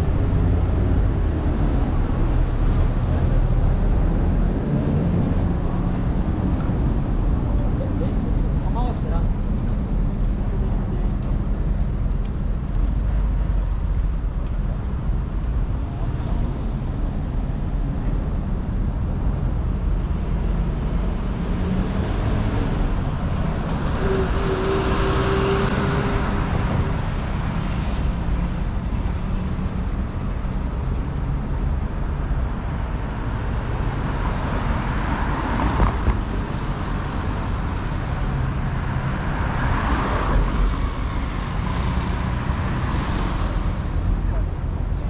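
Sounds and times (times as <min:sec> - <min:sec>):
road traffic rumble: 0:00.0 - 0:45.0
vehicles passing: 0:00.0 - 0:45.0.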